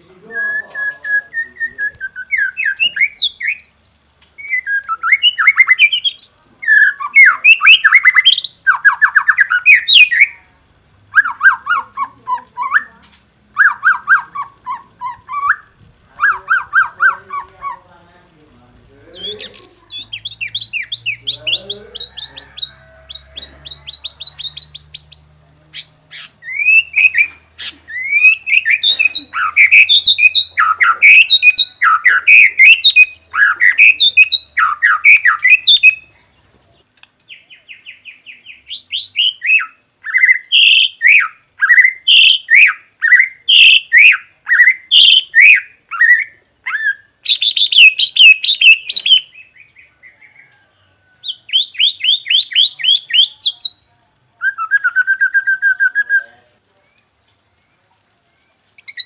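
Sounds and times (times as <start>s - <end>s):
songbird singing varied song: 0.0s - 59.0s.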